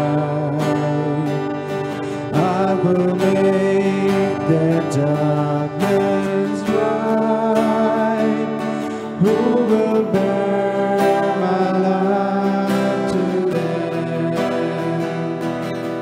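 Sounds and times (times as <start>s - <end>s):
person singing: 0.0s - 16.0s
strummed guitar chords: 0.0s - 16.0s.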